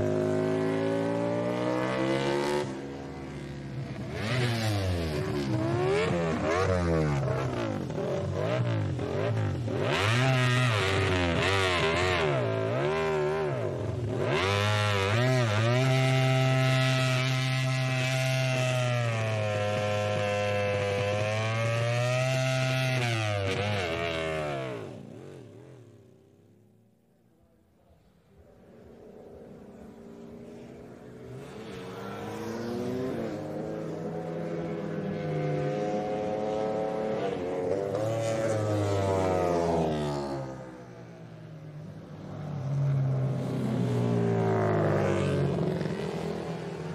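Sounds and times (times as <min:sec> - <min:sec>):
motorcycle engine at high revs: 0:00.0 - 0:26.2, 0:29.3 - 0:41.0, 0:43.0 - 0:46.9.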